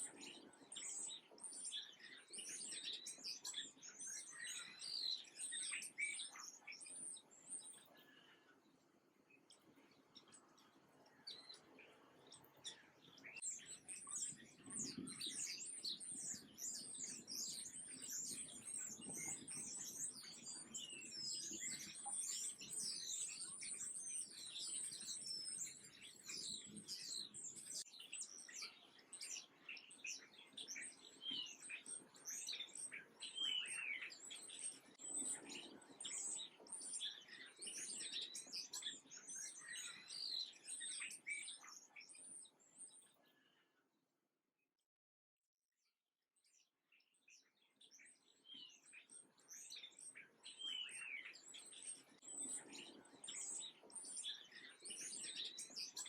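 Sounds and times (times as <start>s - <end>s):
small birds chirping: 0.0s - 43.9s, 46.4s - 56.0s.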